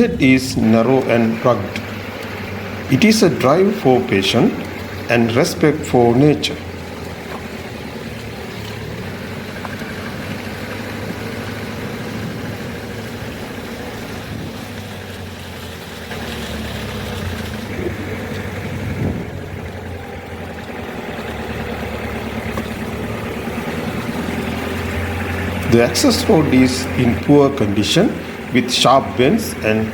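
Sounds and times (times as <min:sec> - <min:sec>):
car engine driving: 0:00.0 - 0:29.9.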